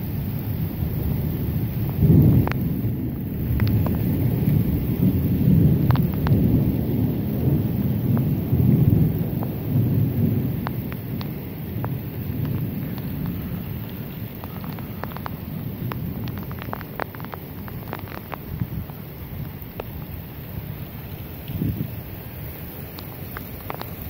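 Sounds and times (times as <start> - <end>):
raindrops ticking close by: 0.0 - 24.0
steady rain: 0.0 - 24.0
rolling thunder: 0.6 - 20.7.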